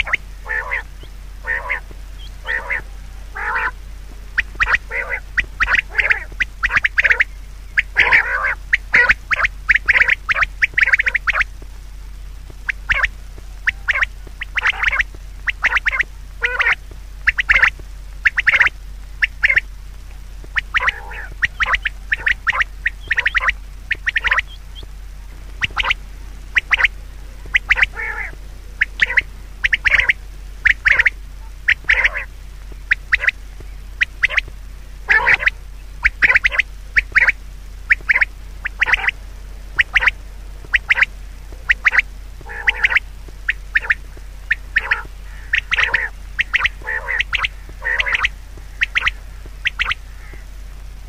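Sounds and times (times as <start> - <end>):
birds calling harshly: 0.0 - 51.0
steady low hum: 0.0 - 51.0.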